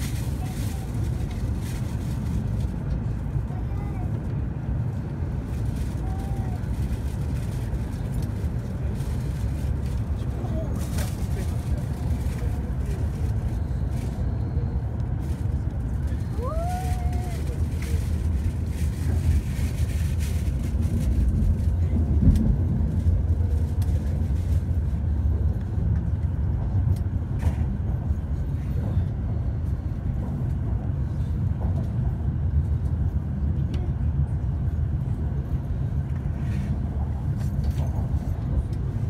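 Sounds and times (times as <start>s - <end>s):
train cabin low rumble: 0.0s - 39.0s.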